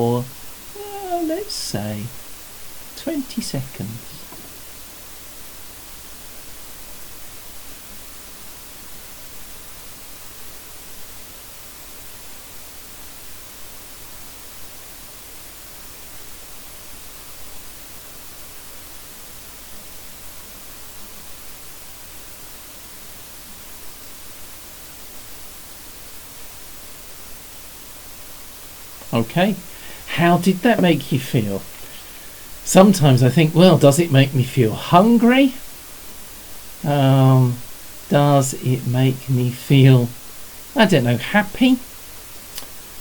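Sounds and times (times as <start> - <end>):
recording background hiss: 0.0 - 43.0.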